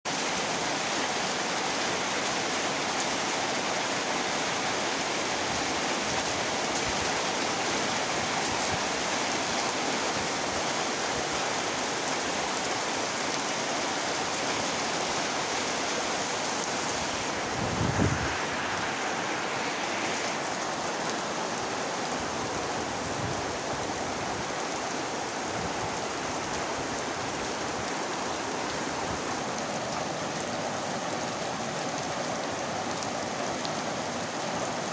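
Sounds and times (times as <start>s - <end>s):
heavy rain hissing: 0.3s - 34.9s.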